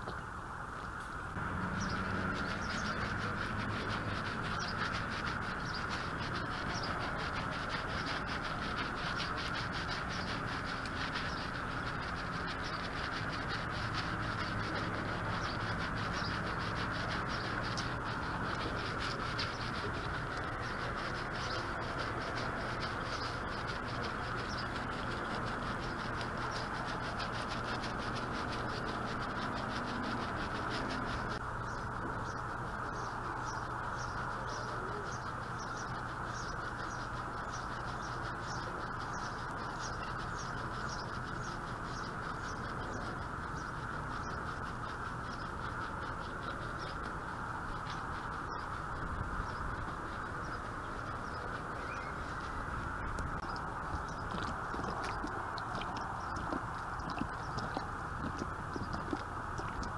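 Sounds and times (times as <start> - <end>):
steady background drone: 0.0 - 59.9
brush scrubbing vinyl trim: 1.4 - 31.4, 36.3 - 59.9.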